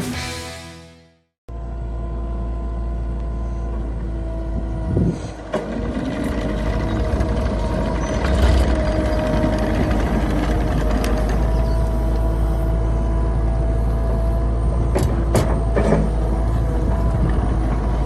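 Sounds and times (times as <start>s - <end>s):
diesel engine running: 1.5s - 18.0s.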